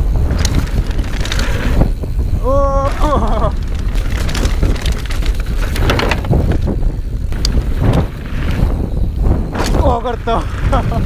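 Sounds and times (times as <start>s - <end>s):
bike rattles and knocks: 0.0s - 11.0s
tyre roar on dirt: 0.0s - 11.0s
wind buffeting on microphone: 0.0s - 11.0s.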